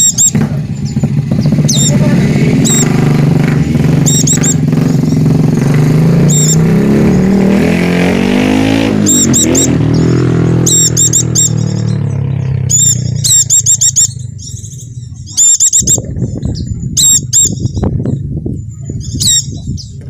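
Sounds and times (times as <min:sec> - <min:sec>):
vehicle engine running: 0:00.0 - 0:19.8
high bird chirps: 0:00.0 - 0:20.0.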